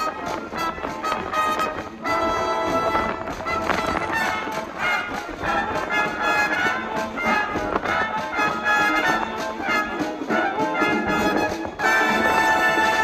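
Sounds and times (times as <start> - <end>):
wind band playing: 0.0 - 13.0.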